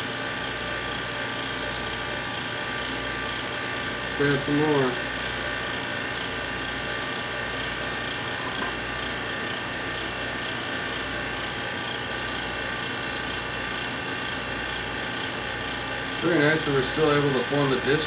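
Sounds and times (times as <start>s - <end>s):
vacuum pump whirring hum: 0.0s - 18.0s.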